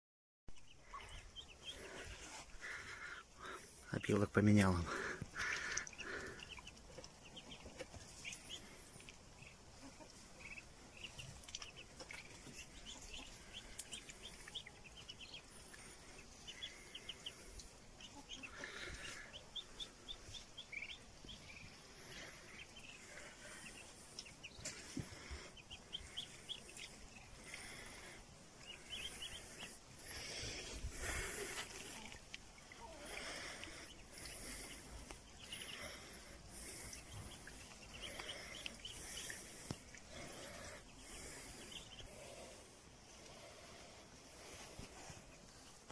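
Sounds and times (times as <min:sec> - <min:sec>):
ducklings peeping: 0:00.5 - 0:45.9.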